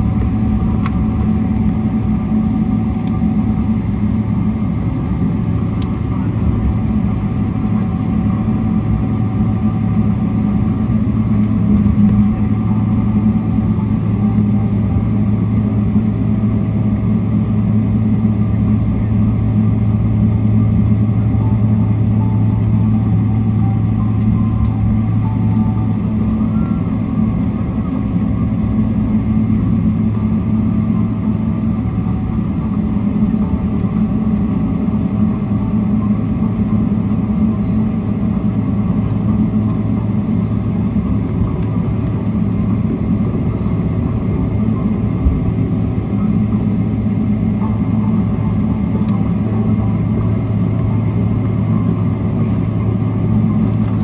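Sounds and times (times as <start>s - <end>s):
aircraft cabin rumble and hum: 0.0s - 54.0s
jet engines idling: 0.0s - 54.0s.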